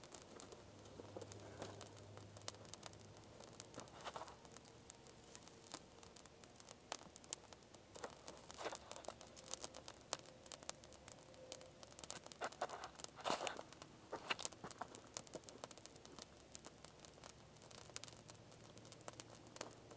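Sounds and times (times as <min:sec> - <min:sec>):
dry twigs rustling and snapping: 0:00.0 - 0:19.9
twig fire crackling and popping: 0:00.0 - 0:19.9.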